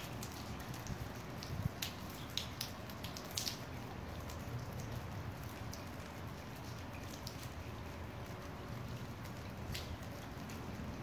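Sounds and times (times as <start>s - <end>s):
drip ticks: 0.0s - 11.0s
steady rain falling: 0.0s - 11.0s.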